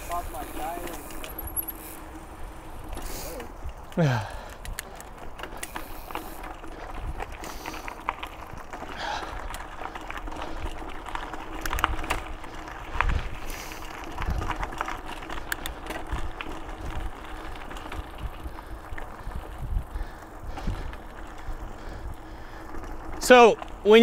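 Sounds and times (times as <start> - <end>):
bike clicking and rattling: 0.0 - 24.0
bike tyres rolling on dirt: 0.0 - 24.0.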